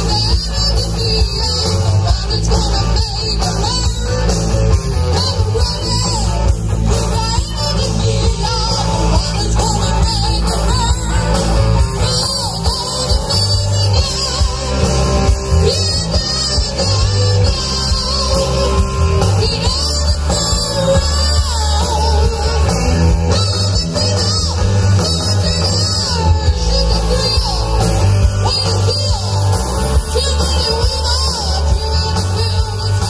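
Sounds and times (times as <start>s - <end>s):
drum kit: 0.0s - 33.0s
electric guitars: 0.0s - 33.0s
person singing: 0.0s - 33.0s.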